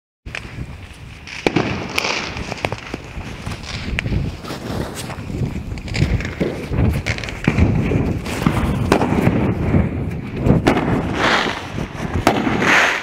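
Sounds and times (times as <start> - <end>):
crackling hiss of aerial bursts: 0.3 - 13.0
fireworks banging: 0.3 - 13.0.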